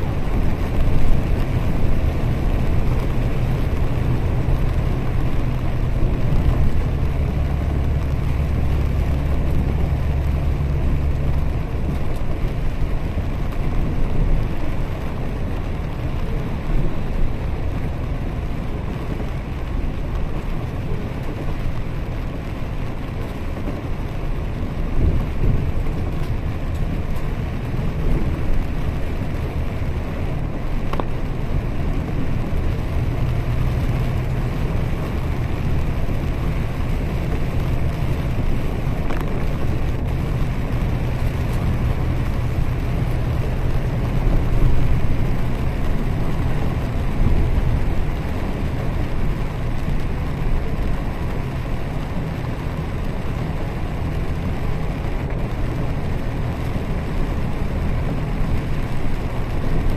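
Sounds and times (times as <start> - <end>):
bus engine and road rumble: 0.0 - 59.9
tyres hissing on wet road: 0.0 - 59.9.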